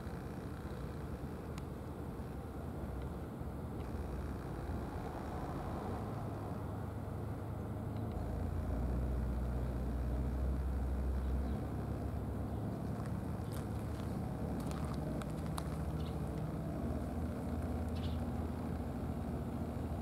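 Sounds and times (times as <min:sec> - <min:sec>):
engine rumble: 0:00.0 - 0:20.0.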